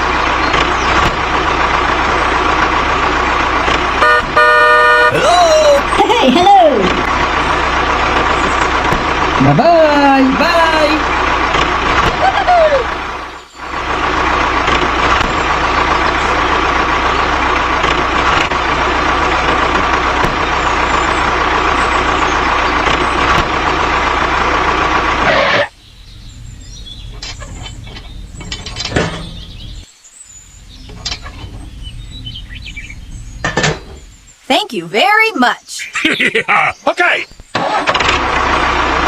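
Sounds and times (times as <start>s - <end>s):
engine running loud: 0.0s - 29.9s, 37.6s - 39.0s.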